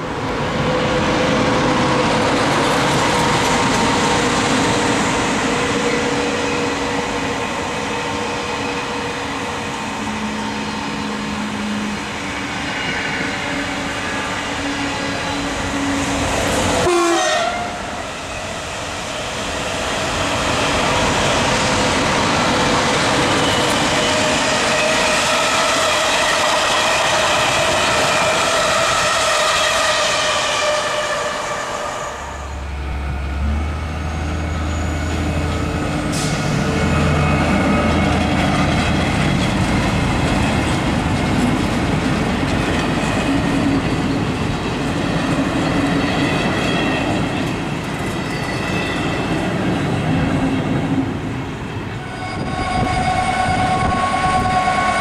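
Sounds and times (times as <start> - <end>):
train passing on rails: 0.0 - 55.0.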